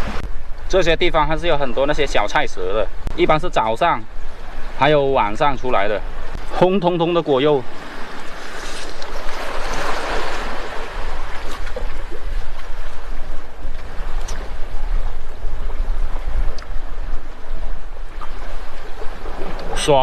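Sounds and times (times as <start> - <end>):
sea surf: 0.0 - 20.0
wind rumbling on microphone: 0.0 - 20.0.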